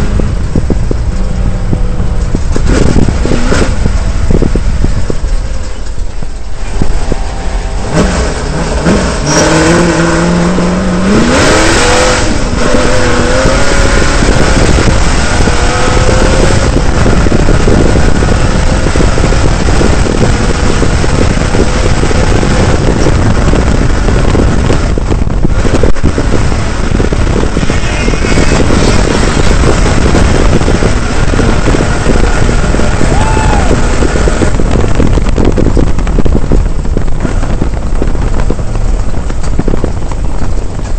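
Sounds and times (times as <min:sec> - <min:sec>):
truck engine revving: 0:00.0 - 0:40.9
wind and driving noise: 0:00.0 - 0:40.9.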